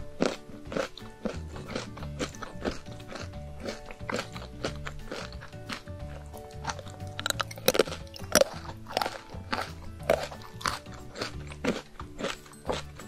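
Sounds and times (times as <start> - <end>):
cookie crunching: 0.0 - 13.0
soft background music: 0.0 - 13.0.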